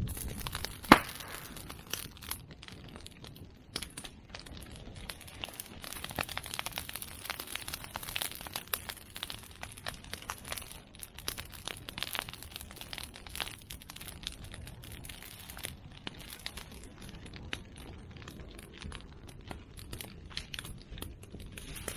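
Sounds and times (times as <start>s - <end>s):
bonfire crackling and popping: 0.0s - 21.9s.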